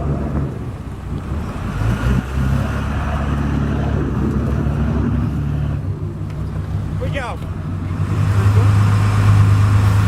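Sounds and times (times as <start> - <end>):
boat engine running: 0.0 - 10.0
rushing wind and water: 0.0 - 10.0.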